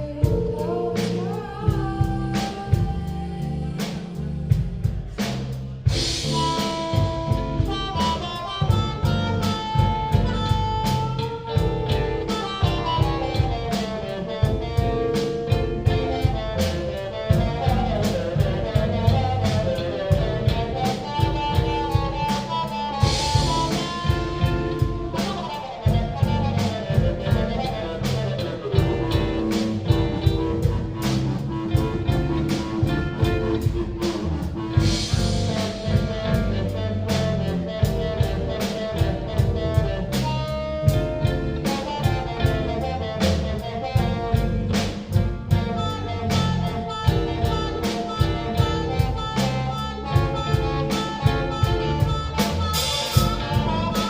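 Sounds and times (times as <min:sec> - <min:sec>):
drum kit beat: 0:00.0 - 0:54.0
live rock band playing: 0:00.0 - 0:54.0.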